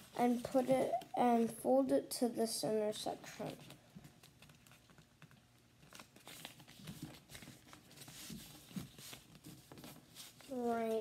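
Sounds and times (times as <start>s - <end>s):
paper rustling and crinkling: 0.0s - 1.2s, 2.9s - 11.0s.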